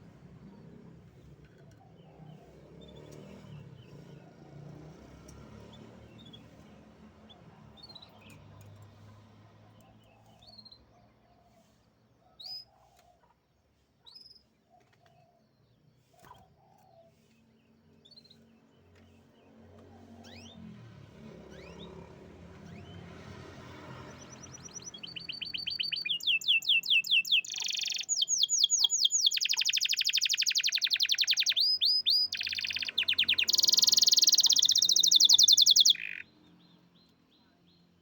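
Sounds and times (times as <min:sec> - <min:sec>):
canary chirping: 0:00.3 - 0:09.1, 0:09.7 - 0:11.2, 0:12.4 - 0:12.7, 0:18.0 - 0:37.9.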